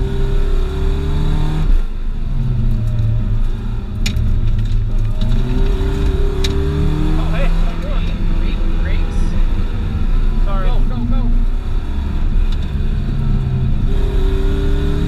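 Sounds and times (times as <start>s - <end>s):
car engine pulling hard: 0.0s - 15.0s.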